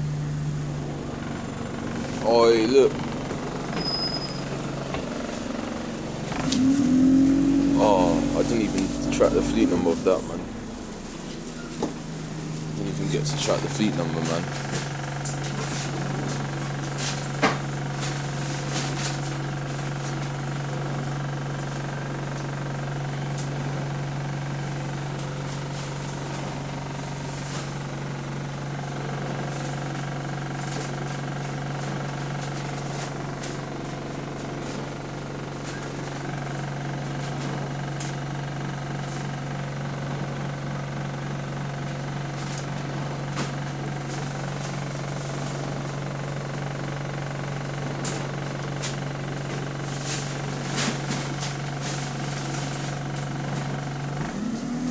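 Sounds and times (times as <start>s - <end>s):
bus diesel engine drone: 0.0s - 54.9s.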